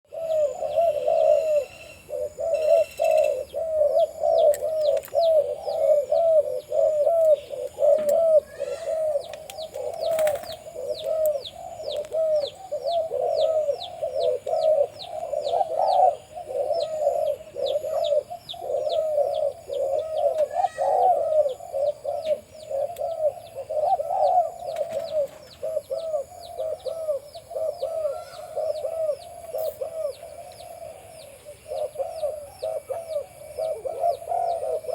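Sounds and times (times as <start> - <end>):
doves cooing: 0.1 - 34.9.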